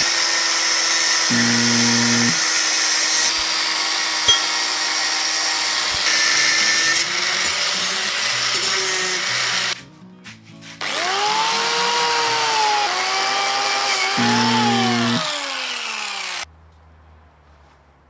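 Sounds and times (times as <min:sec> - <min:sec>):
angle grinder cutting steel: 0:00.0 - 0:09.8, 0:10.8 - 0:16.5
angle grinder whining and grinding: 0:00.0 - 0:09.8, 0:10.8 - 0:16.5.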